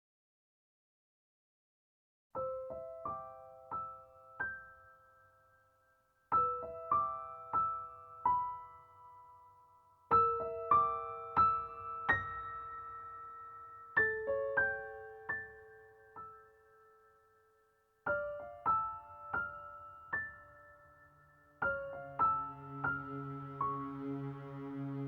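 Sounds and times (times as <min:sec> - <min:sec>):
slow piano music: 0:02.4 - 0:25.0.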